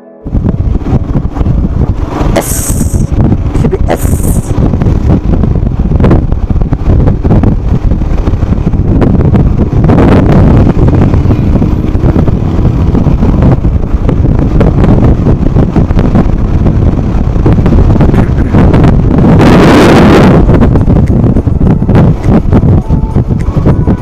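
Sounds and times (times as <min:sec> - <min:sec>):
wind buffeting microphone: 0:00.2 - 0:24.0
motorcycle engine rumble: 0:00.3 - 0:24.0.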